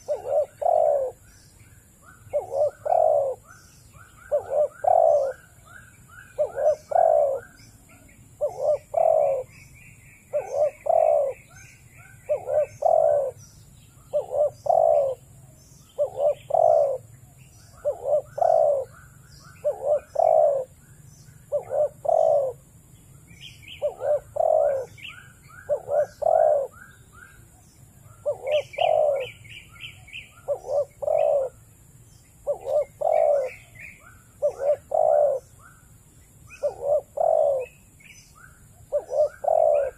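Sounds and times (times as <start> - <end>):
dove cooing: 0.0 - 1.4, 2.0 - 9.6, 10.3 - 13.5, 14.1 - 17.1, 17.7 - 20.8, 21.4 - 22.6, 23.6 - 27.4, 28.0 - 31.7, 32.4 - 35.7, 36.5 - 37.9, 38.7 - 39.9
small birds chirping: 0.0 - 39.9.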